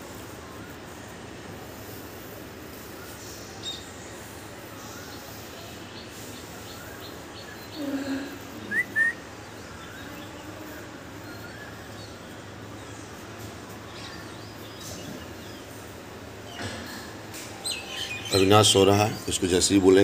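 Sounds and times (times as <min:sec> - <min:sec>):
bird chirps: 0:02.9 - 0:19.4.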